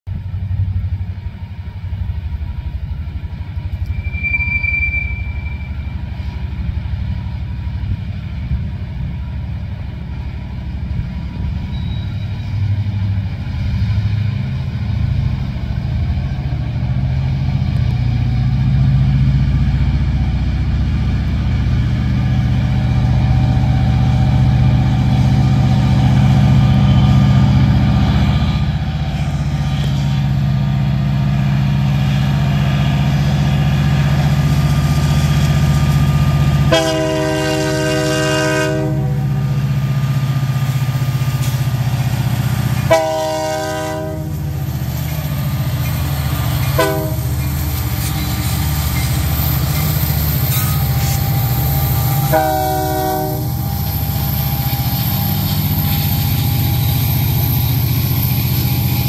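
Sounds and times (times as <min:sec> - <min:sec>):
diesel locomotive engines rumbling: 0:00.1 - 0:59.0.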